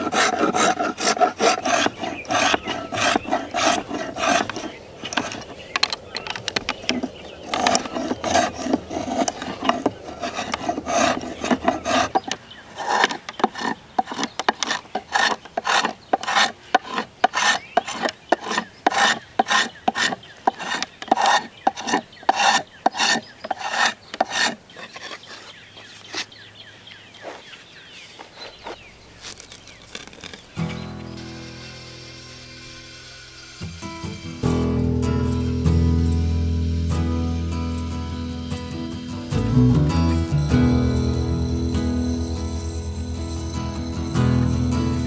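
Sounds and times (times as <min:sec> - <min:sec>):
spokeshave scraping wood: 0:00.0 - 0:26.5, 0:27.2 - 0:45.0.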